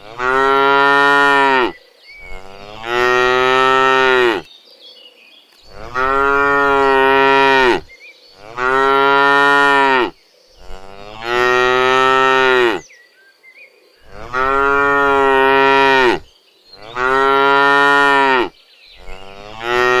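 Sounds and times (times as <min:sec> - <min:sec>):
cow mooing: 0:00.0 - 0:04.5, 0:05.7 - 0:12.8, 0:14.0 - 0:16.2, 0:16.8 - 0:20.0.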